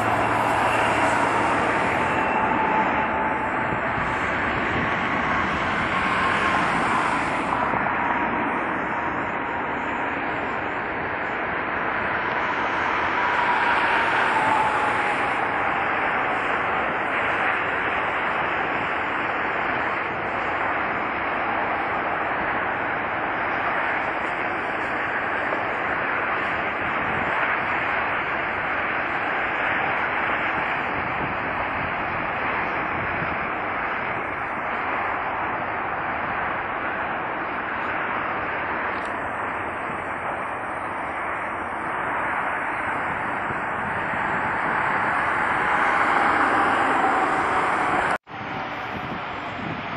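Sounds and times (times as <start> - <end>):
jet engine roar with whine: 0.0 - 49.9.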